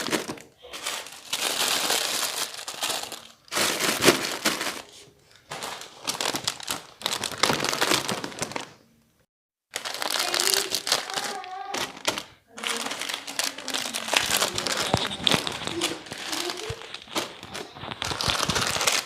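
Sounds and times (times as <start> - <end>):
plastic packets crinkling: 0.0 - 8.8, 9.7 - 19.0.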